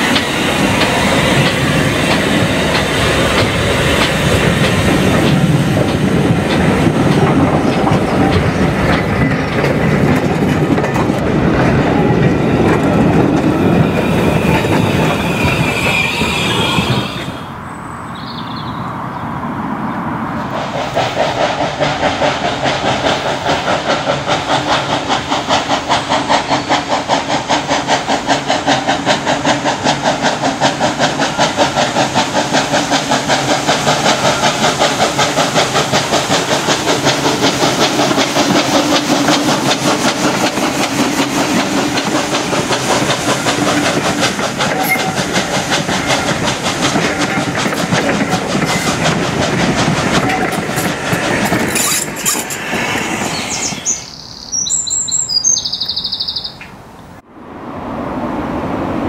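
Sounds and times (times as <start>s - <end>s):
steam locomotive chuffing: 0.0s - 17.6s, 20.5s - 56.6s.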